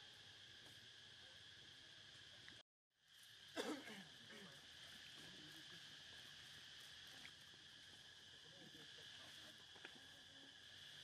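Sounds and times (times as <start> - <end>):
faint insect drone: 0.0 - 11.0.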